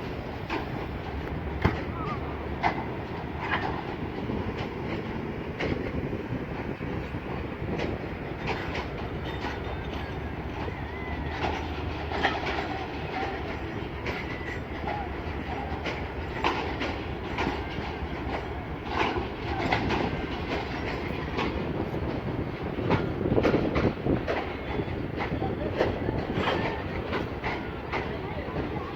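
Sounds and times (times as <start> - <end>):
train rumbling on track: 0.0 - 28.9
wheels clattering over rail joints: 0.0 - 28.9.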